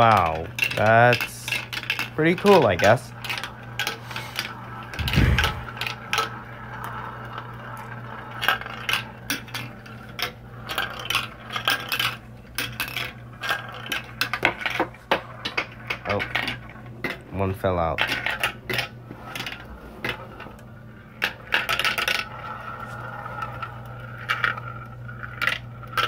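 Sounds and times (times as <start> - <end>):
marbles clattering through plastic run: 0.0 - 26.0.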